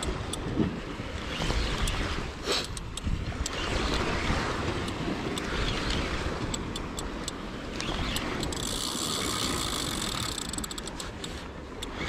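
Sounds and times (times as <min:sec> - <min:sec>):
fishing reel ticking: 0:00.0 - 0:12.0
wind on microphone: 0:00.0 - 0:12.0
high reel whir: 0:01.0 - 0:12.0.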